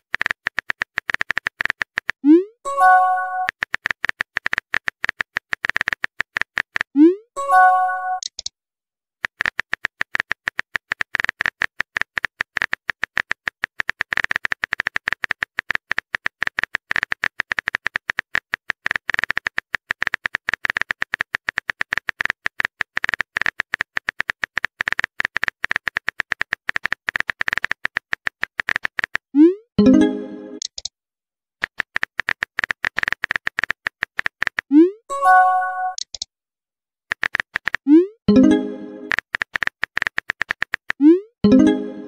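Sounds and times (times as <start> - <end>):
keyboard typing clicks: 0.0 - 8.5, 9.2 - 30.9, 31.6 - 36.3, 37.1 - 42.0.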